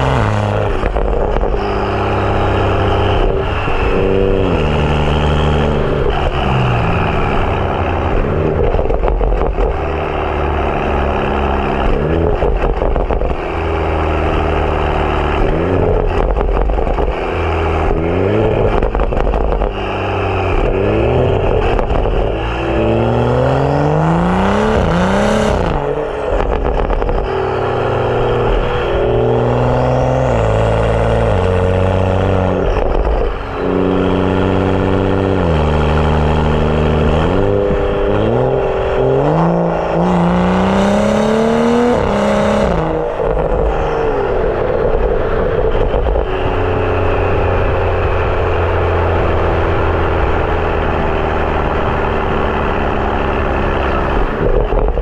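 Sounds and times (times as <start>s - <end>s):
car engine accelerating through gears: 0.0s - 55.0s.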